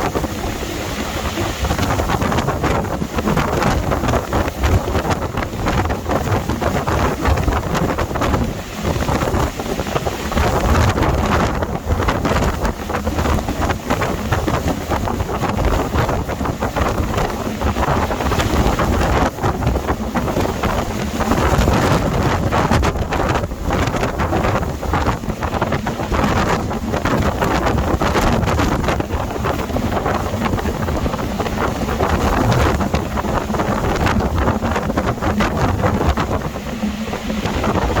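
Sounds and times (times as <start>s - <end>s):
heavy low rumble: 0.0s - 38.0s
sea surging: 0.0s - 38.0s
wind buffeting microphone: 0.0s - 38.0s.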